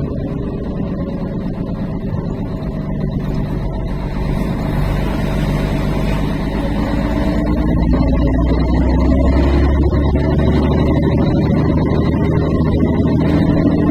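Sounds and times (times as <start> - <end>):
road noise: 0.0 - 13.9
truck engine running: 0.0 - 13.9.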